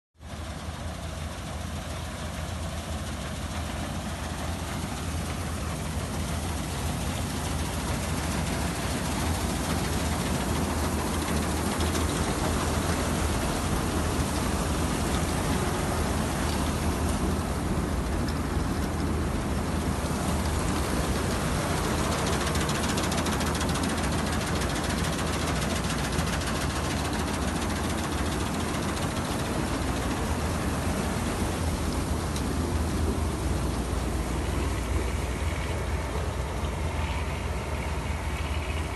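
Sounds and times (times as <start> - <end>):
heavy engine drone: 0.2 - 38.9
harvester cutting and threshing: 0.3 - 38.8.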